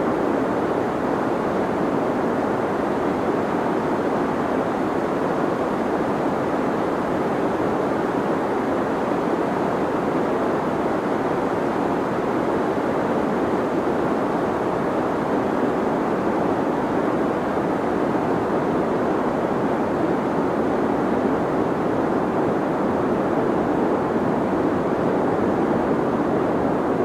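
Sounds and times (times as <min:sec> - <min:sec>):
deep white noise hiss: 0:00.0 - 0:27.0.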